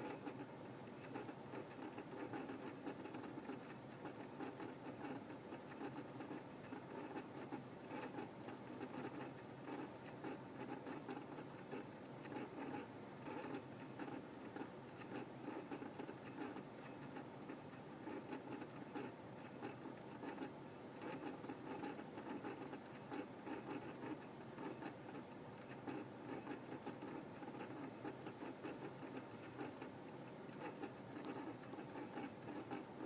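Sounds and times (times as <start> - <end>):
low steady hum: 0.0 - 33.0
rapid irregular pattering clicks: 0.0 - 33.0.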